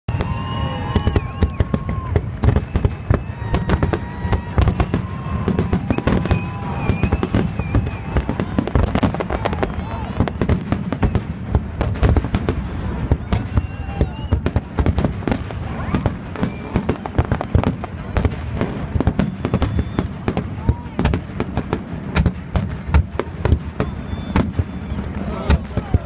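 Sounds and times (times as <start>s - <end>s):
firework whistles: 0.1s - 21.5s, 22.1s - 26.0s
fireworks bangs and crackles: 0.1s - 26.0s.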